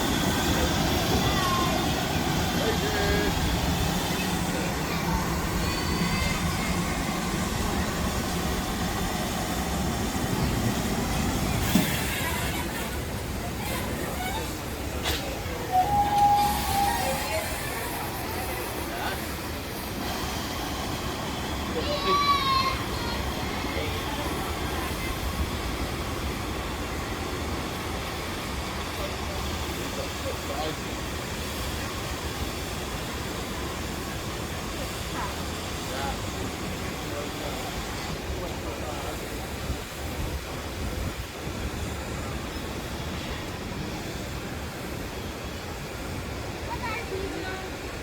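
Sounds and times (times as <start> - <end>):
locomotive low hum: 0.0 - 46.9
train rumbling: 0.0 - 48.0.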